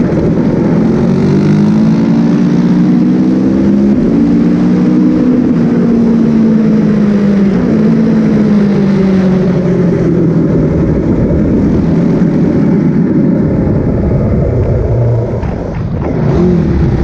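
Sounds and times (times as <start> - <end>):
motorcycle engine: 0.0 - 17.0
wind rush: 0.0 - 17.0.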